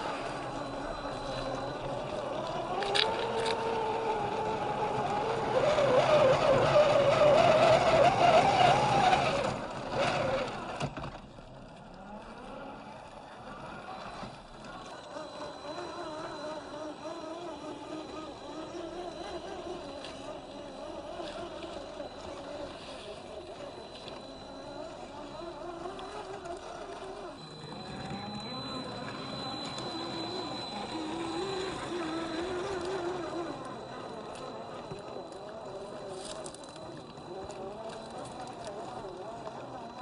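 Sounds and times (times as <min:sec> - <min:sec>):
toy car electric motor whining: 0:00.0 - 0:11.2, 0:11.9 - 0:40.0.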